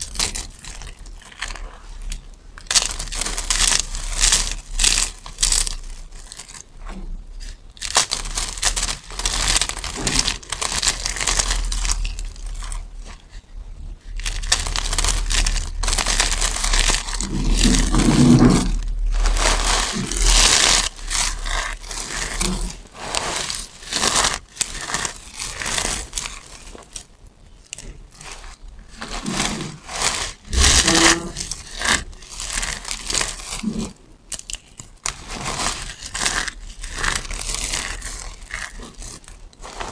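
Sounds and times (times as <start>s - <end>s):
hands crunching soap flakes: 0.0s - 13.3s, 14.0s - 39.9s.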